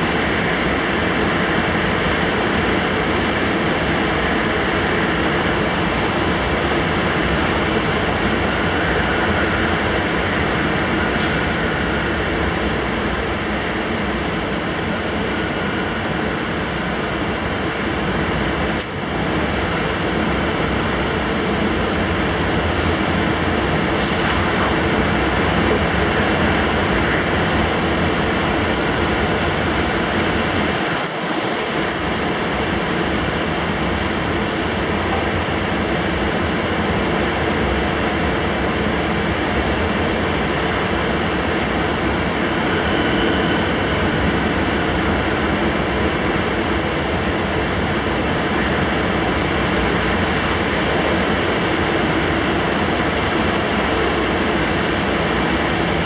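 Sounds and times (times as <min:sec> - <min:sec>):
heavy rain: 0:00.0 - 0:56.0
storm wind rushing: 0:00.0 - 0:56.0.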